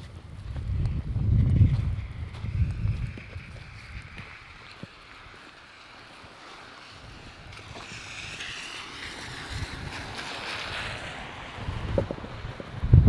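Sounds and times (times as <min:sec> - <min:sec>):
wind buffeting microphone: 0:00.0 - 0:05.9, 0:06.8 - 0:13.0.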